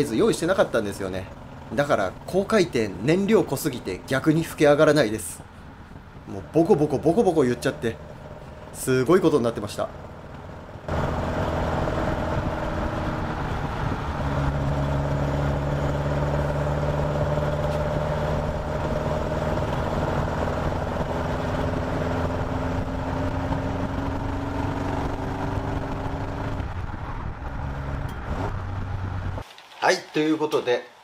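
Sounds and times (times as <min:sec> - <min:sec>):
car engine running: 0:00.0 - 0:29.4.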